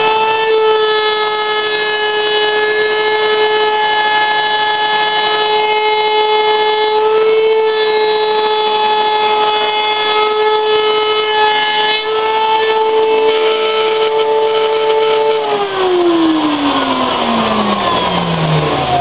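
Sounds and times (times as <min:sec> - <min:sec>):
router bit spinning down: 0:00.0 - 0:19.0
router motor whining: 0:00.0 - 0:19.0.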